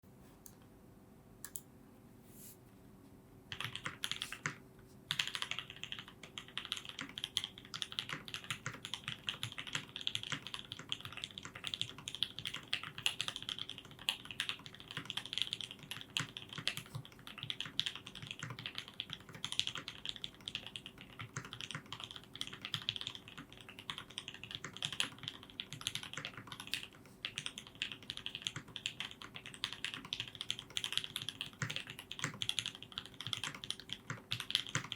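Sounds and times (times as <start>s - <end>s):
mechanical keyboard typing: 3.5s - 34.9s.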